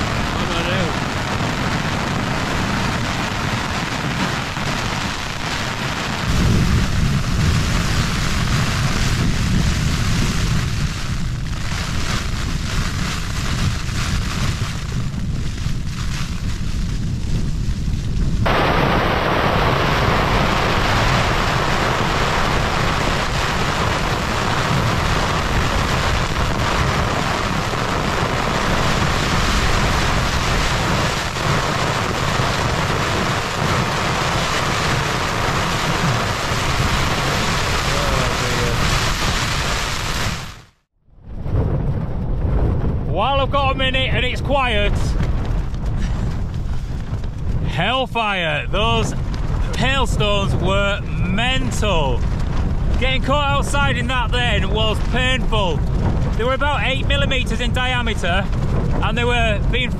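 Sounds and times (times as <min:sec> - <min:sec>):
hail drumming on tent: 0:00.0 - 0:59.9
strong wind buffeting tent: 0:00.0 - 0:59.9.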